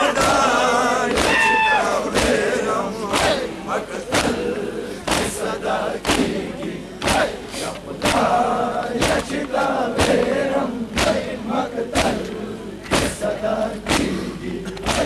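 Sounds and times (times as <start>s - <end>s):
men beating chests in unison: 0.0s - 15.0s
men chanting verses: 0.0s - 15.0s.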